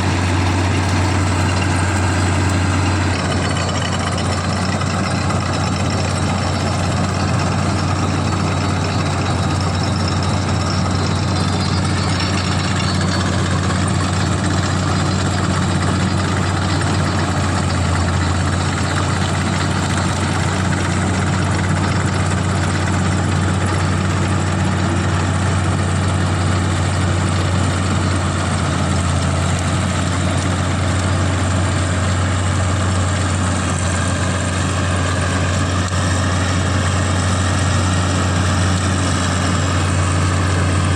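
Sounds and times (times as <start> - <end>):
combine harvester engine hum: 0.0 - 40.9.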